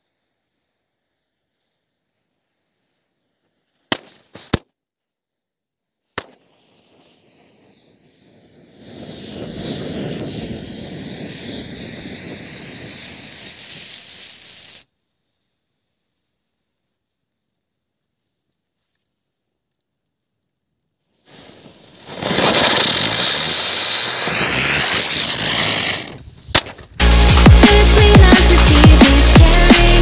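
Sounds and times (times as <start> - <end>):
firework hissing sparks: 0.0 - 4.6, 6.0 - 16.8, 21.0 - 30.0.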